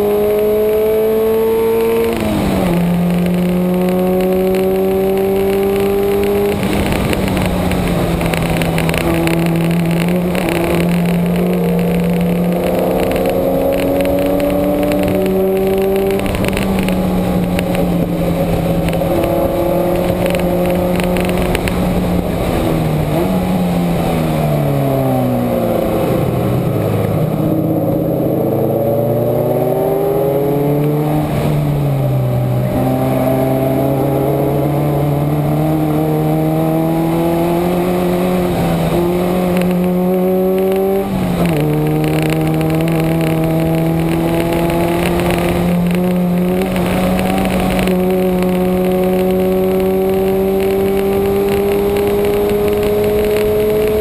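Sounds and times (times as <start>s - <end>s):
race car engine revving: 0.0s - 54.0s
wind and tyre noise: 0.0s - 54.0s.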